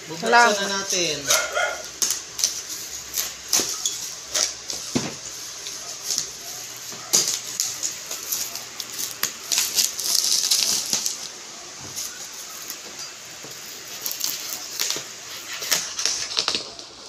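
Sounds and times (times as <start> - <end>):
bubble wrap crinkling and tearing: 0.0 - 17.0.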